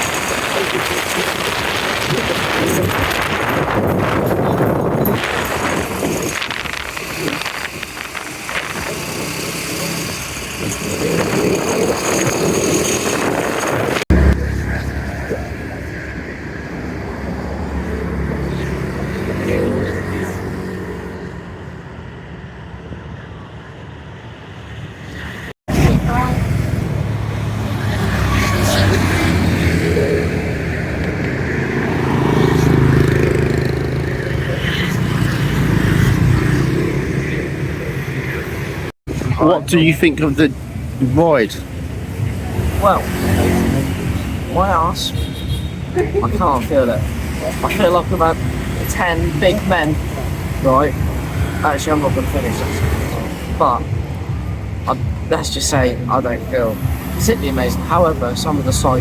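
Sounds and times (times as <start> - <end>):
road and traffic noise: 0.0 - 59.0.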